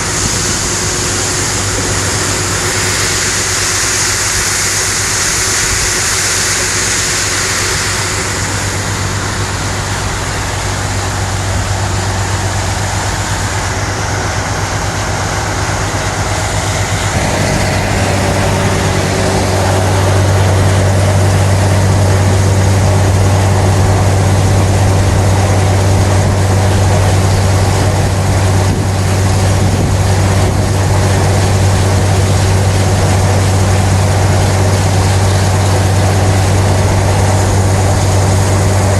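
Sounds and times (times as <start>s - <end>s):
tractor engine under load: 6.6s - 38.9s.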